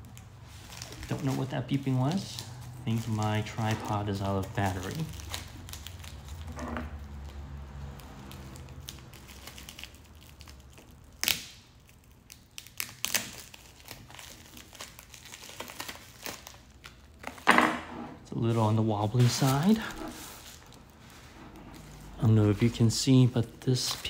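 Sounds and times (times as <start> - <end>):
bubble wrap crinkling: 0.0 - 17.4, 18.7 - 24.0.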